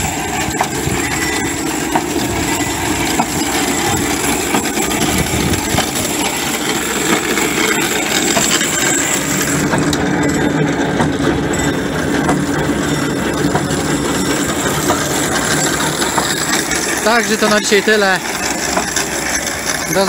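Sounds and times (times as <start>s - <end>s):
spreader chain and discs rattling: 0.0s - 20.0s
tractor diesel engine: 0.0s - 20.0s.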